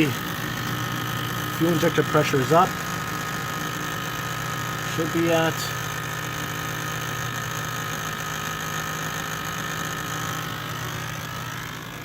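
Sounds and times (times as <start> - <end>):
diesel engine cranking: 0.0 - 12.0.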